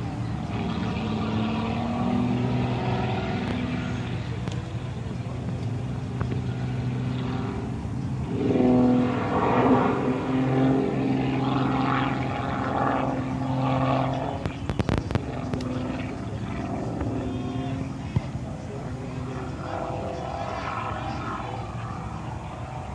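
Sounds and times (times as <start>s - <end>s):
propeller plane engine droning: 0.0s - 22.9s.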